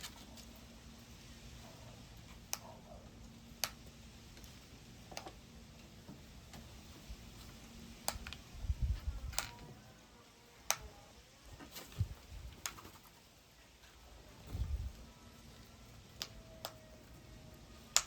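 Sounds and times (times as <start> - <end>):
birds pecking taps and ticks: 0.0 - 11.1, 11.7 - 14.0, 14.9 - 18.0.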